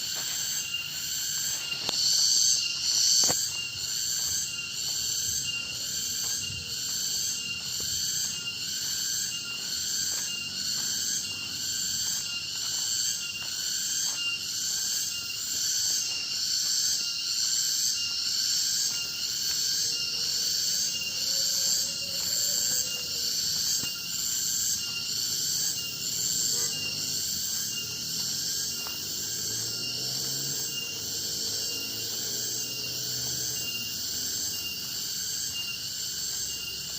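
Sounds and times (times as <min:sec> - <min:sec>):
forest insects droning: 0:00.0 - 0:36.9.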